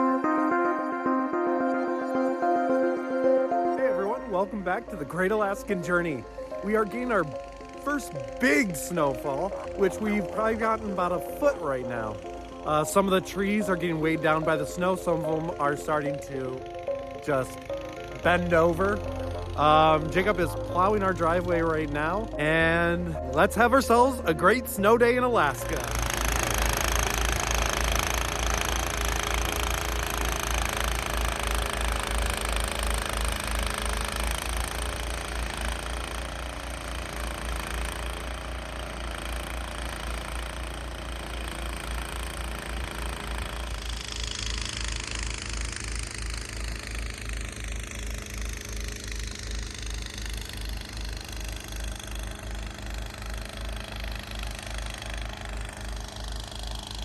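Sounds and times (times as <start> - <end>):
snow blower engine running: 3.3 - 57.0.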